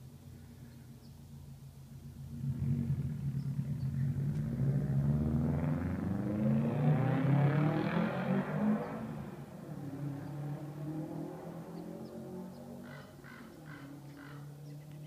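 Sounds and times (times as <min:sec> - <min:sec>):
car engine revving: 0:02.0 - 0:14.6.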